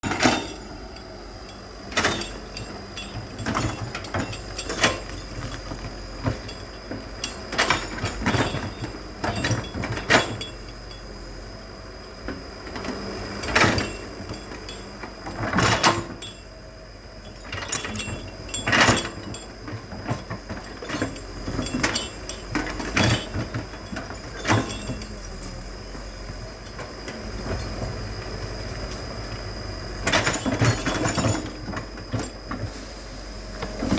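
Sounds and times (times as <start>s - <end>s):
excavator engine rumbling: 0.0s - 33.9s.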